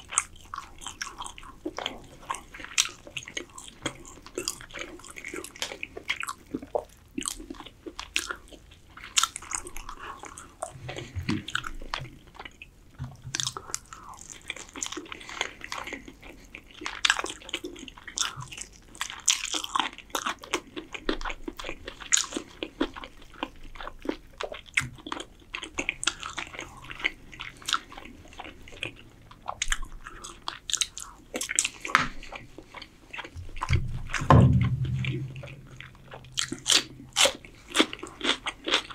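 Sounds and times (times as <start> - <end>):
chewing and biting chicken: 0.0 - 38.9.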